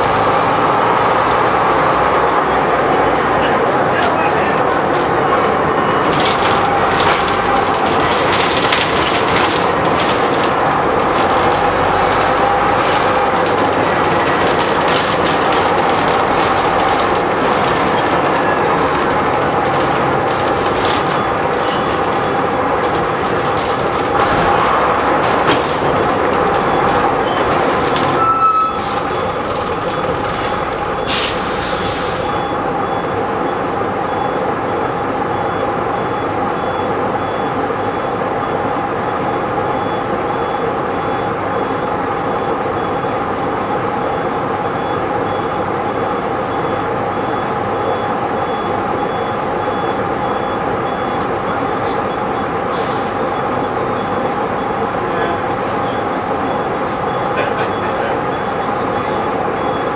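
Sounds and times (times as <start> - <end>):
bus engine drone and whine: 0.0 - 59.9.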